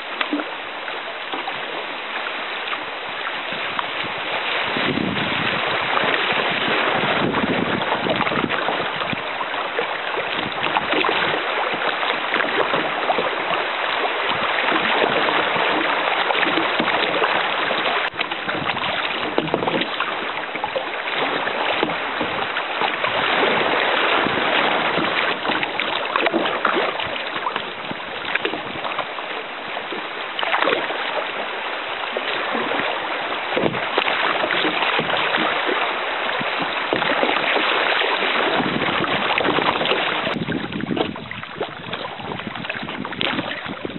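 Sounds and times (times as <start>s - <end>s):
river water rushing and splashing: 0.0s - 43.9s.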